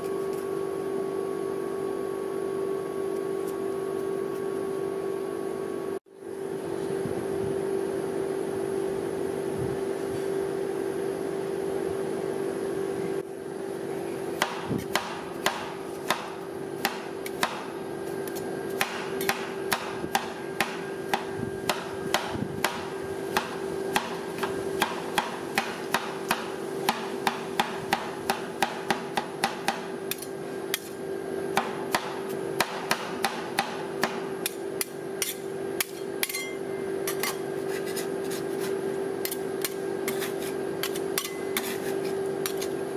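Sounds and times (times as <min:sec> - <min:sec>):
steady hum: 0:00.0 - 0:42.9.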